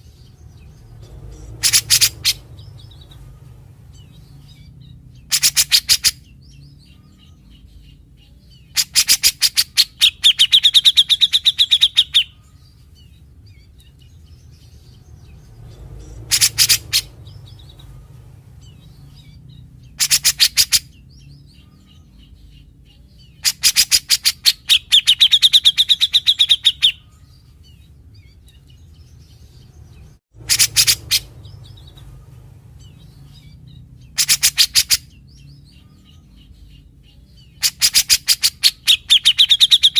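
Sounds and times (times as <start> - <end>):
bird singing rattling notes: 0.0 - 39.9.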